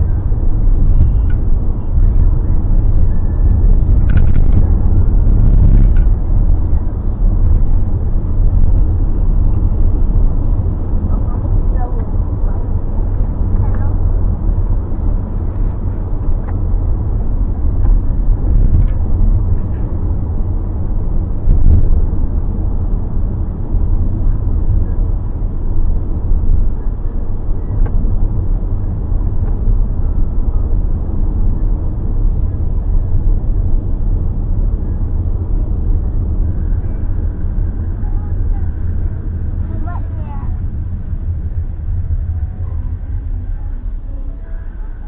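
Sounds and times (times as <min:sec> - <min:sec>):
car cabin road and engine rumble: 0:00.0 - 0:45.0.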